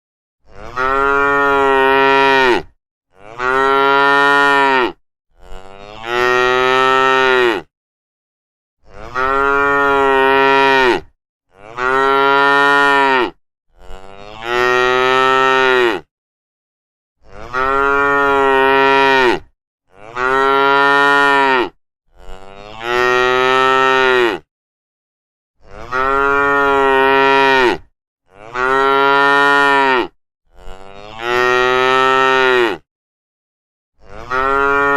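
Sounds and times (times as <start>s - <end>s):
cow mooing: 0.4s - 7.7s, 8.8s - 16.1s, 17.2s - 24.5s, 25.6s - 32.9s, 34.0s - 34.9s.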